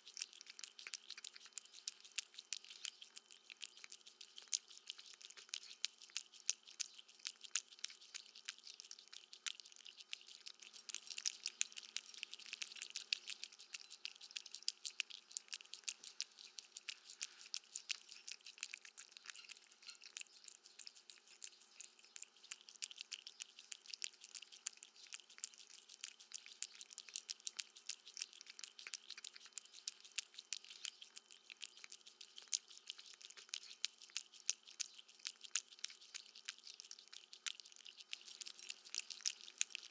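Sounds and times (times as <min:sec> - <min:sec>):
cat crunching food: 0:00.0 - 0:39.9.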